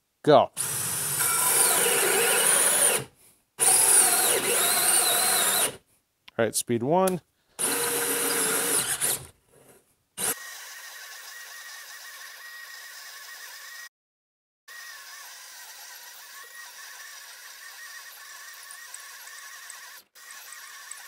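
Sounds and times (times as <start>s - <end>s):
drill motor whining: 0.6s - 5.8s, 7.6s - 13.9s, 14.7s - 21.0s.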